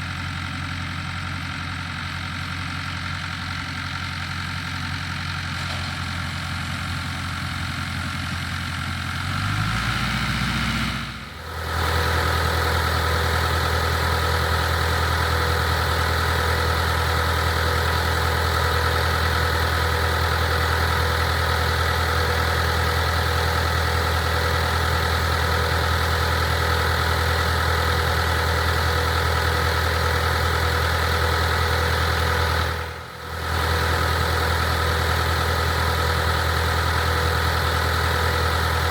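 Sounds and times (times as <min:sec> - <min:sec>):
tractor engine running: 0:00.0 - 0:38.9
combine machinery running: 0:04.5 - 0:38.9.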